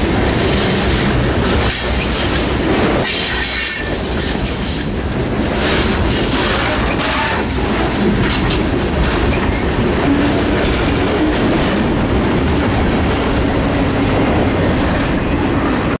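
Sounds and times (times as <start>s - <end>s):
train wheels running on rails: 0.0s - 16.0s.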